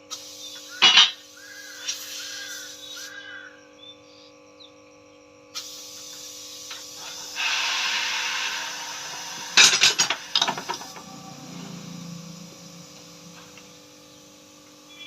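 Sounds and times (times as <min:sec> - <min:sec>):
rasping hissing tool noise: 0:00.0 - 0:03.5, 0:05.5 - 0:15.0.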